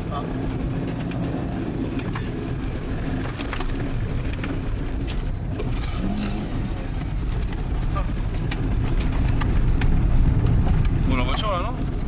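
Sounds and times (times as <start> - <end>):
car engine and road rumble: 0.0 - 12.0
stones crackling under tyres: 0.0 - 12.0.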